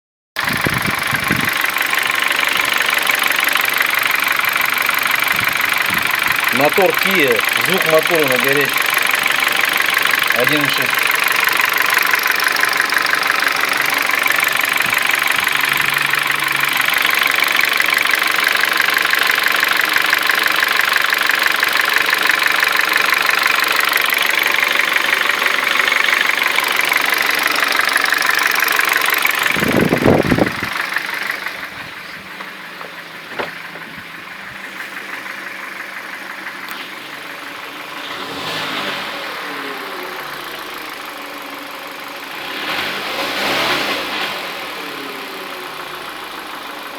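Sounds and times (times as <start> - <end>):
engine idling with metallic clatter: 0.4 - 46.9.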